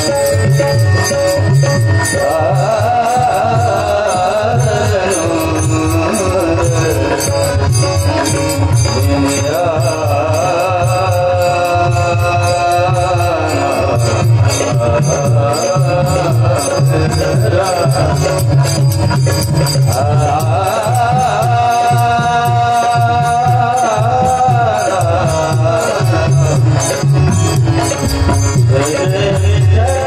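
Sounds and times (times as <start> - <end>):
steady drum beat: 0.0 - 30.0.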